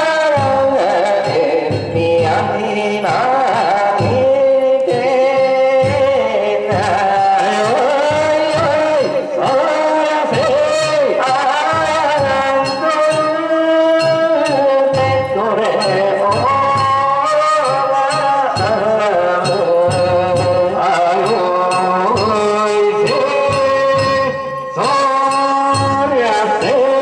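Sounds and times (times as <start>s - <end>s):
big drum beating: 0.0s - 27.0s
men singing drawn-out notes: 0.0s - 27.0s.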